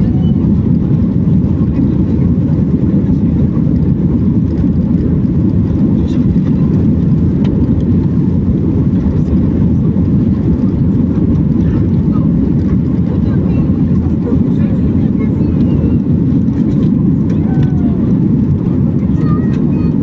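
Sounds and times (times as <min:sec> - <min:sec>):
airplane cabin roar during takeoff: 0:00.0 - 0:20.0.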